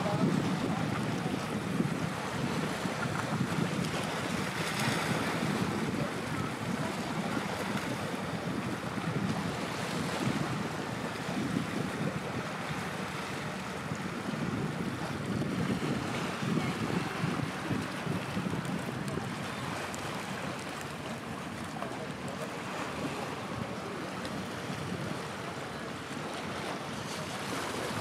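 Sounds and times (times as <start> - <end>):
wind on microphone: 0.0 - 25.9
waves: 0.0 - 28.0.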